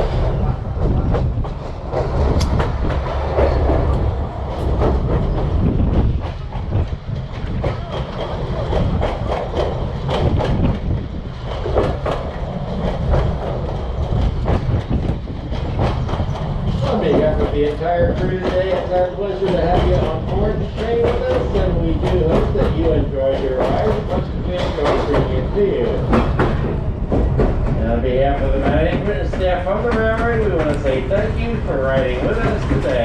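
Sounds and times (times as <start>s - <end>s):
railroad car rumbling: 0.0s - 33.0s
wheels clicking over rail joints: 0.0s - 33.0s.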